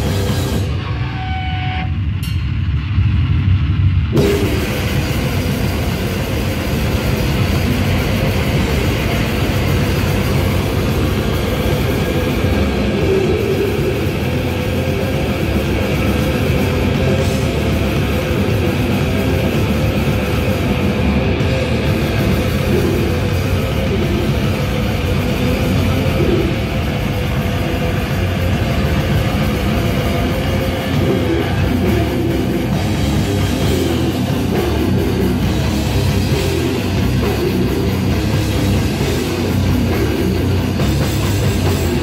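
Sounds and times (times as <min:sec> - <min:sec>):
bass: 0:00.0 - 0:42.0
distorted electric guitar: 0:00.0 - 0:42.0
drums: 0:00.0 - 0:42.0.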